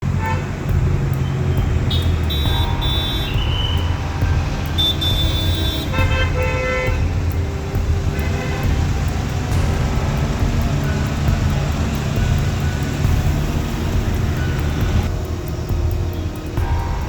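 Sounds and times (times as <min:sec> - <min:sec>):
car horns honking: 0:00.0 - 0:17.0
idling vehicle engines rumbling: 0:00.0 - 0:17.0.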